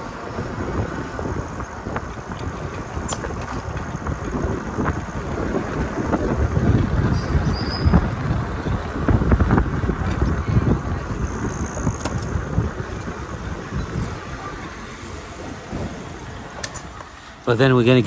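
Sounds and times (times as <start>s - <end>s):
wind on microphone: 0.0s - 16.7s
traffic: 0.0s - 18.0s.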